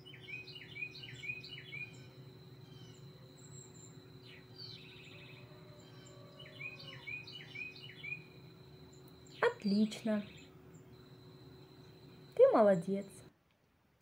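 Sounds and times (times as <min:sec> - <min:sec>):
bird chirping and trilling: 0:00.0 - 0:13.2
low steady hum: 0:00.0 - 0:14.0.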